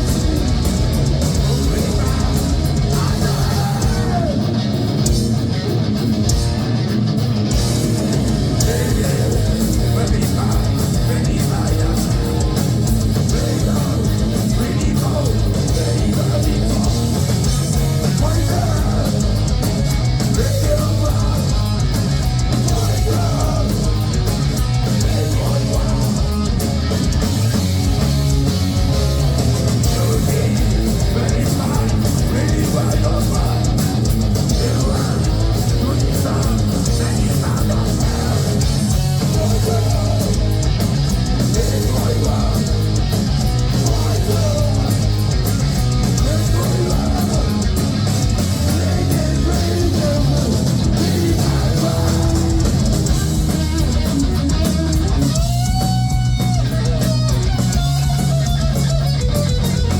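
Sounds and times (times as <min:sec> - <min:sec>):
electric guitar: 0:00.0 - 0:59.9
heavy metal band playing live: 0:00.0 - 0:59.9.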